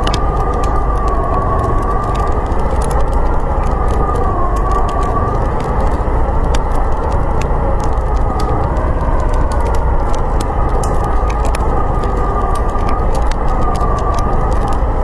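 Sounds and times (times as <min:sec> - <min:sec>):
wind howling: 0:00.0 - 0:15.0
wood fire crackling: 0:00.0 - 0:15.0.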